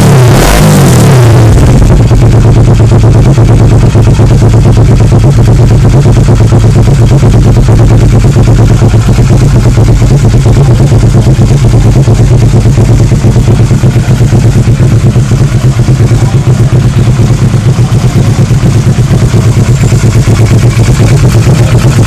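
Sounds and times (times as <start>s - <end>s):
motorcycle engine running steadily: 0.0s - 22.0s.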